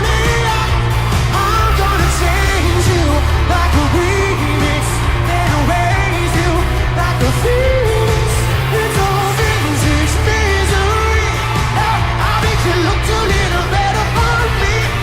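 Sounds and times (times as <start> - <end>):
heavy bass beat: 0.0 - 15.0
pop song with singer: 0.0 - 15.0.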